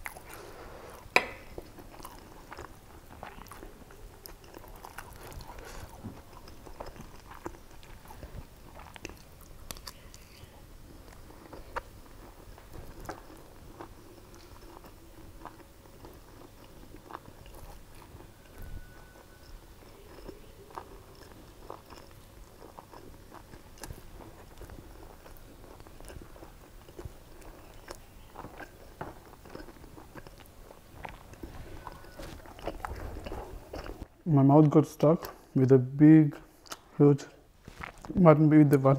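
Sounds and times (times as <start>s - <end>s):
chewing and biting food: 0.0s - 34.1s.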